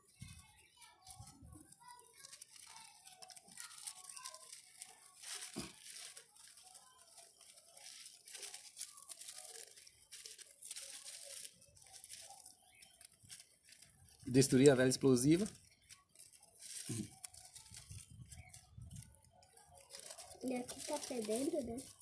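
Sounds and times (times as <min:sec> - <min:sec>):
paper crinkling: 0:00.1 - 0:22.0.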